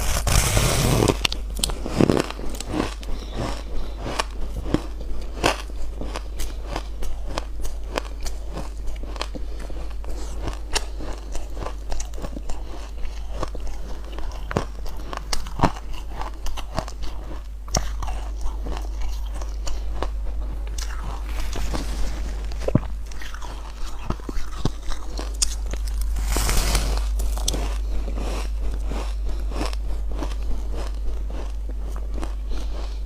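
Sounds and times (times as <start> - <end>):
ice crunching between teeth: 0.0 - 33.0.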